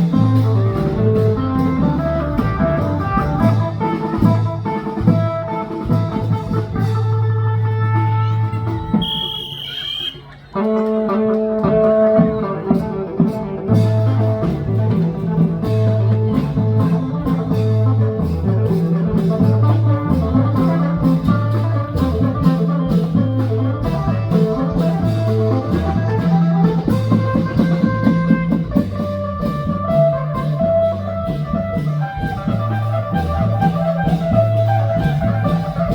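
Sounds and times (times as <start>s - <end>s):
drums: 0.0s - 35.9s
live band music: 0.0s - 35.9s.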